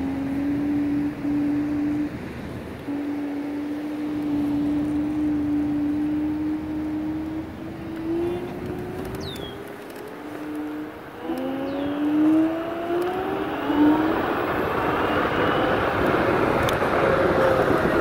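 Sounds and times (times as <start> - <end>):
electric scooter motor whine: 0.0 - 18.0
wind and tyre noise: 0.0 - 18.0.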